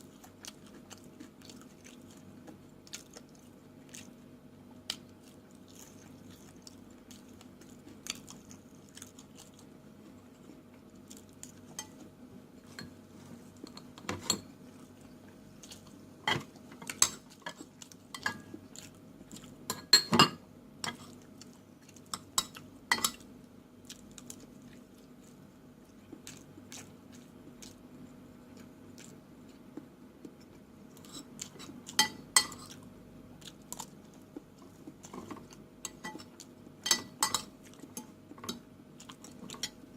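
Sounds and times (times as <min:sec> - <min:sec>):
chewing: 0:00.0 - 0:12.1, 0:14.7 - 0:16.0, 0:17.0 - 0:19.6, 0:20.9 - 0:23.2, 0:23.8 - 0:39.8
faint steady hum: 0:00.0 - 0:39.9.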